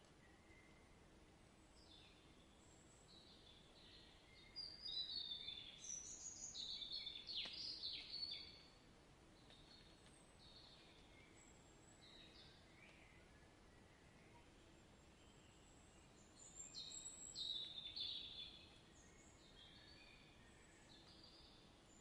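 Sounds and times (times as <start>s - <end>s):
faint background hiss: 0.0s - 22.0s
songbirds chirping: 0.0s - 22.0s.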